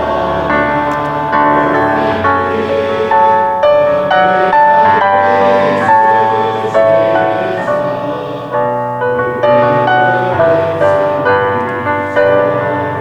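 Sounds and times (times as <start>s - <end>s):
piano playing hymn chords: 0.0s - 13.0s.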